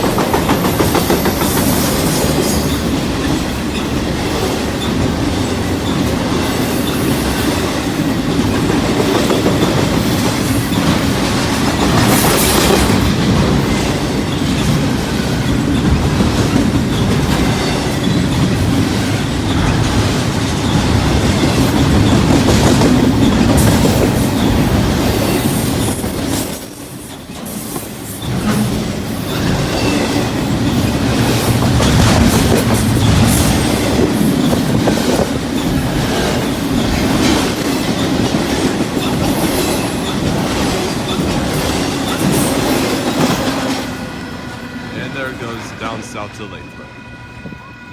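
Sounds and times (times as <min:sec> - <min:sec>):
freight train wheels rumbling on rail: 0:00.0 - 0:47.9.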